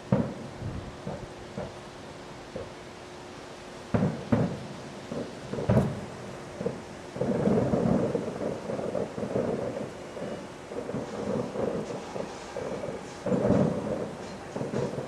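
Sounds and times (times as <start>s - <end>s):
distant fireworks booming: 0.0s - 2.8s, 3.9s - 15.0s
fireworks crackle: 0.0s - 3.1s, 3.8s - 15.0s.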